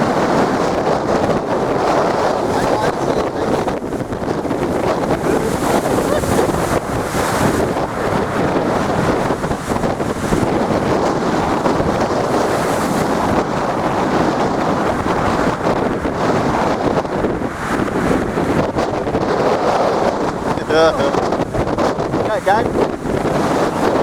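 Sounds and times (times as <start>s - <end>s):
storm wind on microphone: 0.0s - 24.0s
waves surging and breaking: 0.0s - 24.0s.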